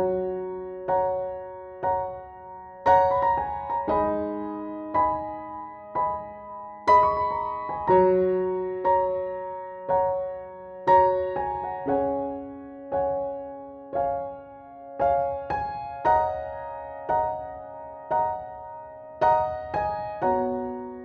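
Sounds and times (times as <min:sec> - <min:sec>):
soft piano melody: 0:00.0 - 0:21.0.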